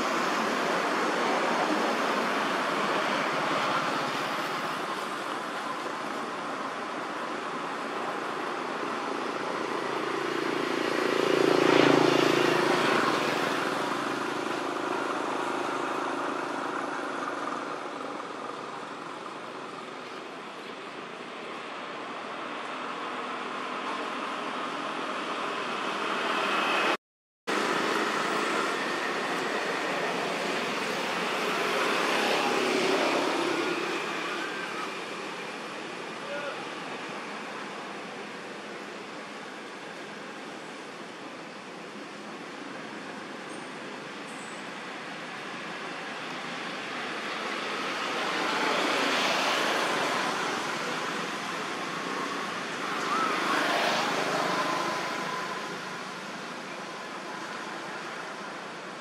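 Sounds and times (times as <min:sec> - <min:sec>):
outdoor rushing background noise: 0:00.0 - 0:59.0.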